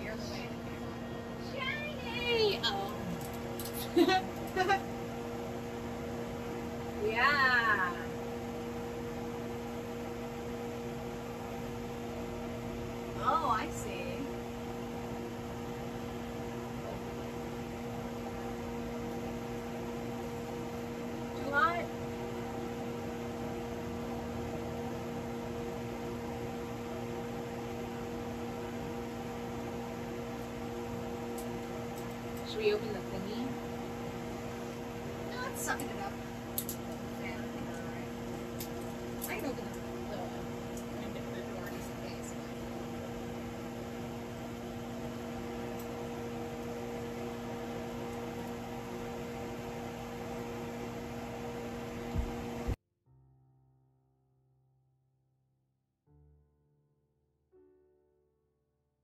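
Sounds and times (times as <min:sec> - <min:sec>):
range hood fan humming: 0:00.0 - 0:52.8.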